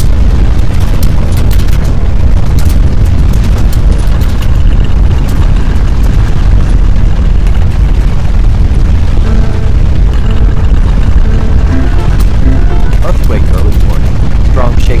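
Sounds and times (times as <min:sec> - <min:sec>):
earthquake rumble with rattles: 0:00.0 - 0:15.0.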